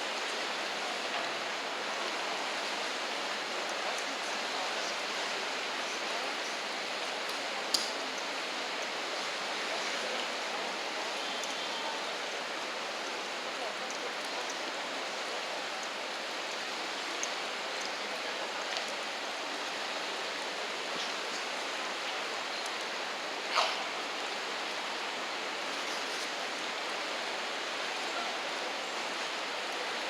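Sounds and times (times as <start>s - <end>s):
riverside ambience hiss: 0.0s - 30.0s.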